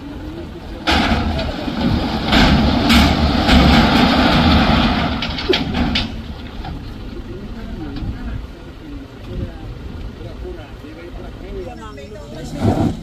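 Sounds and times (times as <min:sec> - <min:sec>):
heavy truck rumbling: 0:00.0 - 0:13.0.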